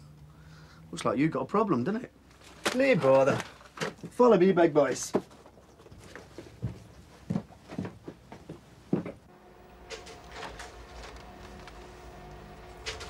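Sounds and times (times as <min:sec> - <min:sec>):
faint steady hum: 0:00.0 - 0:04.2, 0:05.2 - 0:13.0.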